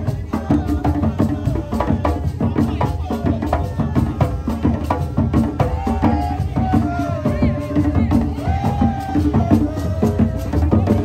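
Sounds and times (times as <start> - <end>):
hand drums beating: 0.0 - 11.0
voices singing: 0.0 - 11.0.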